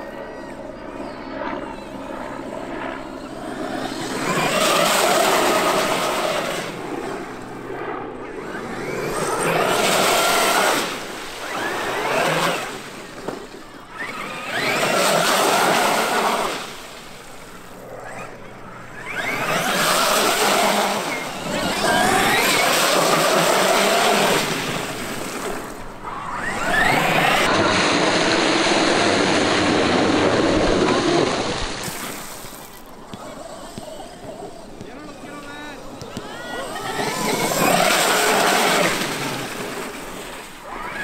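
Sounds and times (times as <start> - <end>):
electric toy truck motor whining: 3.2 - 7.4, 8.4 - 41.0.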